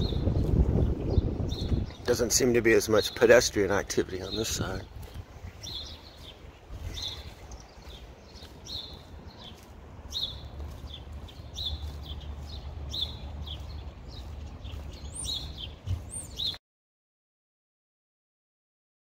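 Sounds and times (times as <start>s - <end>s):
small birds chirping: 0.0s - 16.6s.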